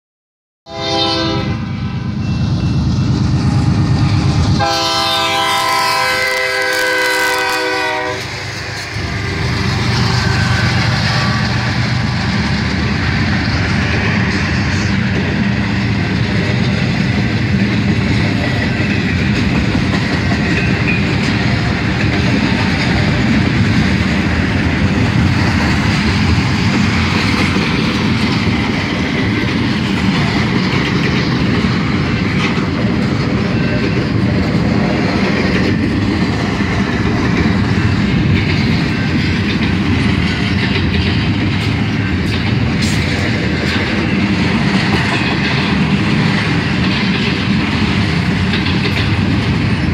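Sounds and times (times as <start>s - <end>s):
freight train rumbling past: 0.7s - 49.9s
steel wheels clattering on rails: 5.6s - 49.9s.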